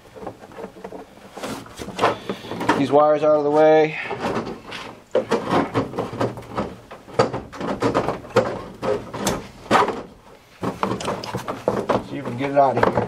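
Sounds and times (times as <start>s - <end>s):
hard plastic knocking and rattling: 0.0s - 3.0s, 4.0s - 13.0s.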